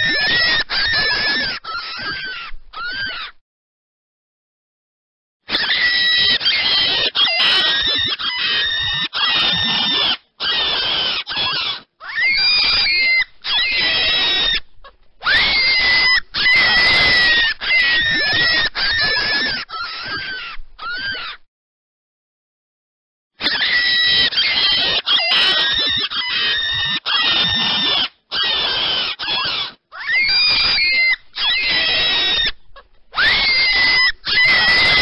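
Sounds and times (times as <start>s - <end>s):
rabbit squealing: 0.0s - 3.4s, 5.5s - 21.5s, 23.4s - 35.0s.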